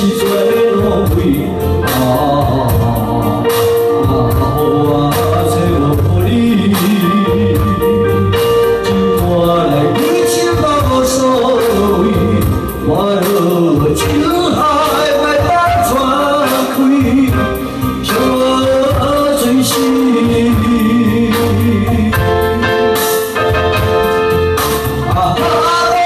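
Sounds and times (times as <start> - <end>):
man singing into a microphone: 0.0 - 24.1, 24.9 - 26.0
electronic keyboard chords: 0.0 - 26.0
drum machine beat: 0.2 - 26.0.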